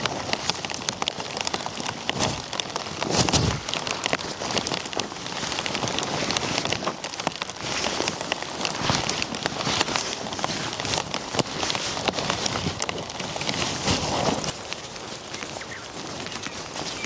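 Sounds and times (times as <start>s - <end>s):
heavy rain: 0.0s - 17.0s
raindrops tapping close by: 0.0s - 17.0s.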